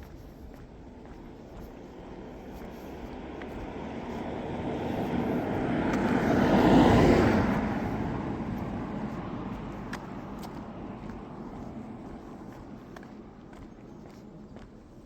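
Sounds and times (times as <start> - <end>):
vehicle passing by: 0.0 - 13.9.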